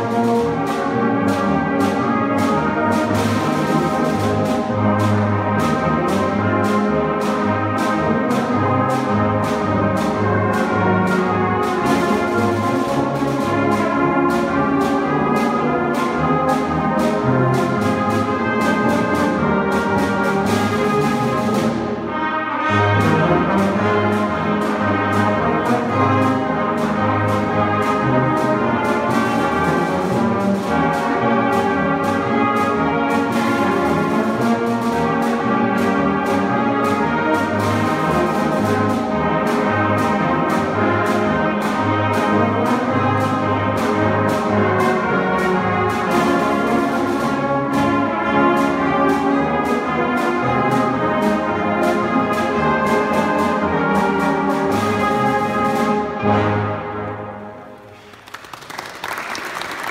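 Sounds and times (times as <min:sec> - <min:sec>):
brass band playing a march: 0:00.0 - 0:59.9.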